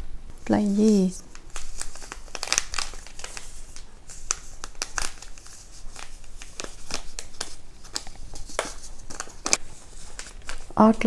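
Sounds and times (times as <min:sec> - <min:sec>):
packet crinkling: 0:00.4 - 0:11.0.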